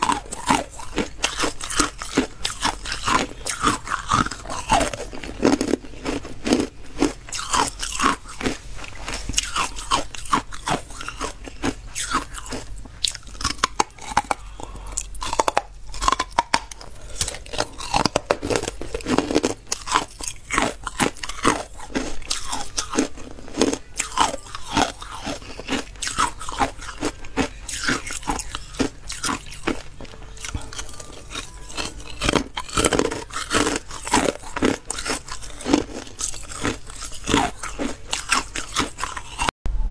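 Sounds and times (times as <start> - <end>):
ice crunching while chewed: 0.0 - 39.5.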